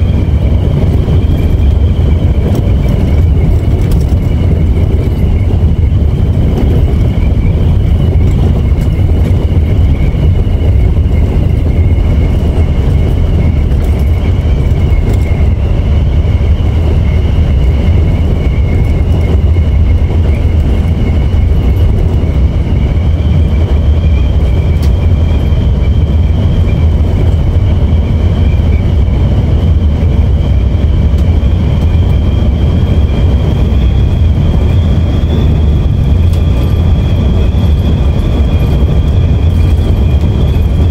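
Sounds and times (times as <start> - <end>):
bus engine and road rumble: 0.0 - 40.9
high whine: 0.0 - 40.9.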